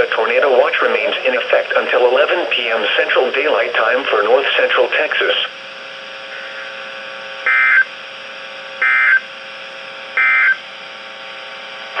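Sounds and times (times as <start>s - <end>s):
buzzy digital data tones: 0.3s - 10.7s.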